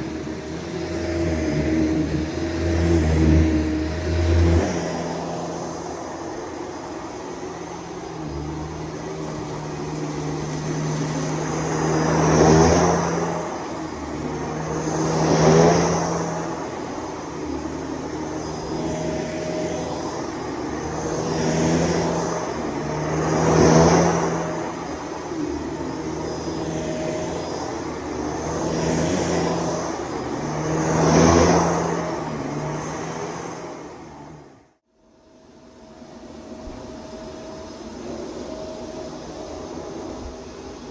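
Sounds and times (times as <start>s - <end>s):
vacuum cleaner motor hum: 0.0s - 40.9s.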